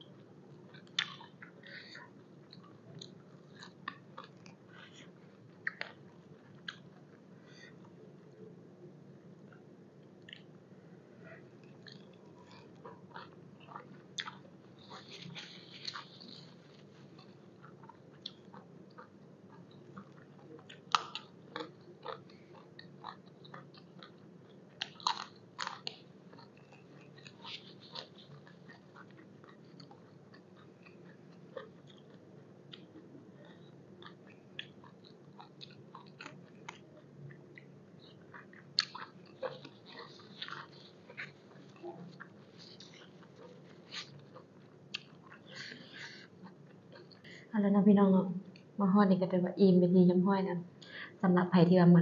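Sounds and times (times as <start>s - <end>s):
person chewing crunchy vegetables: 0.1s - 7.2s, 9.5s - 10.6s, 11.5s - 47.3s.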